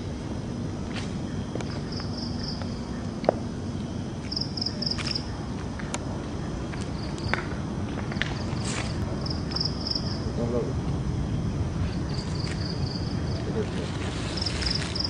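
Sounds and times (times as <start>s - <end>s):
crickets chirping: 0.0s - 15.0s
steady low rumble: 0.0s - 15.0s.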